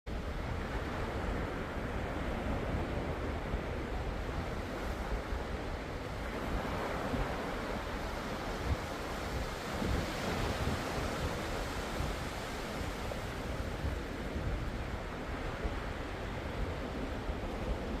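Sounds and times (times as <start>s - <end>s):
ocean waves washing: 0.2s - 18.0s.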